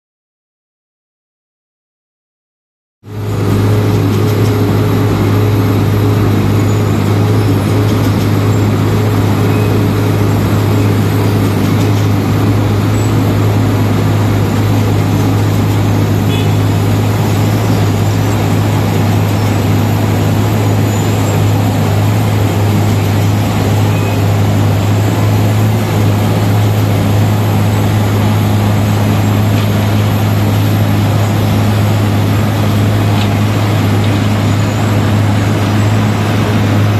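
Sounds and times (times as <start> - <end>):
milling drum grinding asphalt: 3.0 - 36.9
diesel engine humming: 3.1 - 36.9.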